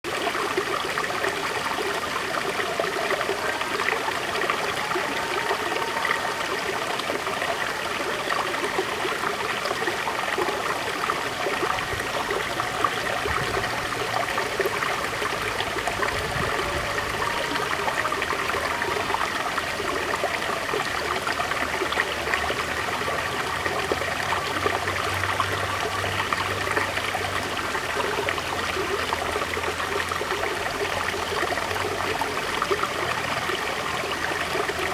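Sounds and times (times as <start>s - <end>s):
river flowing over stones: 0.1s - 34.9s.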